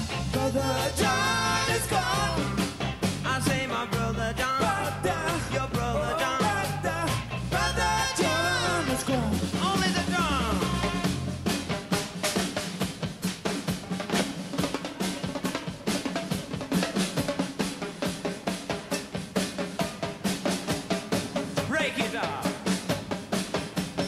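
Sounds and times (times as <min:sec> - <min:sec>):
drum kit: 0:00.0 - 0:24.0
reggae band playing: 0:00.0 - 0:24.0.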